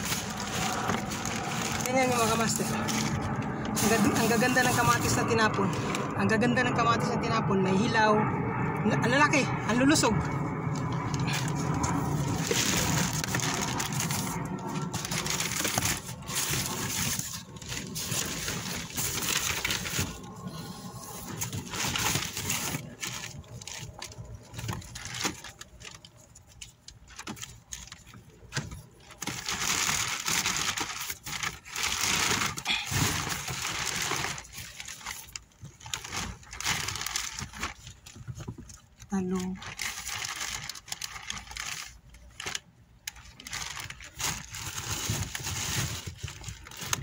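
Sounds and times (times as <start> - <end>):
plastic bags rustling: 0.0 - 6.2, 10.9 - 47.0.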